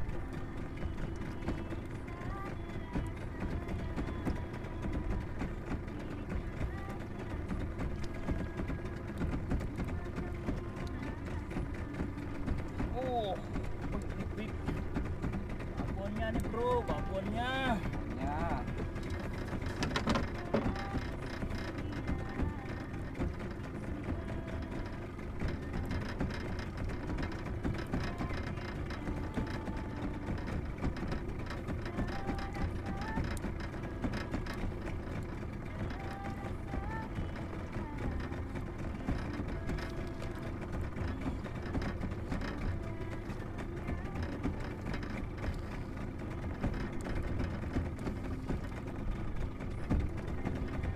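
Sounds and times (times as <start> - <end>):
faint reel ticking: 0.0 - 50.9.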